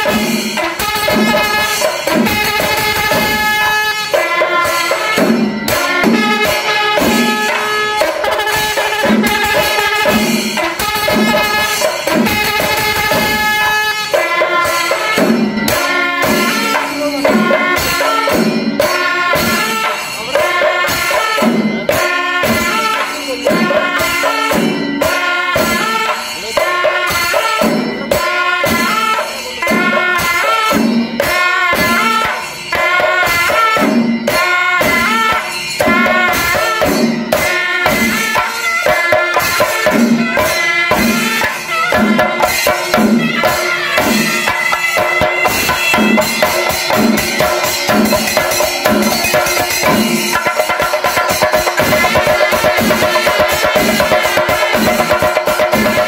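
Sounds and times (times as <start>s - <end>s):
drums beating steady rhythm: 0.0s - 56.0s.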